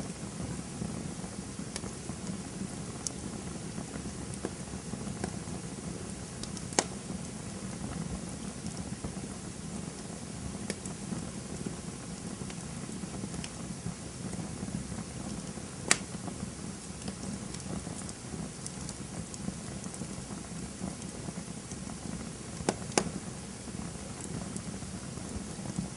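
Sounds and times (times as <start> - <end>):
campfire crackling: 0.0 - 25.9
loud fire pops: 0.0 - 25.9.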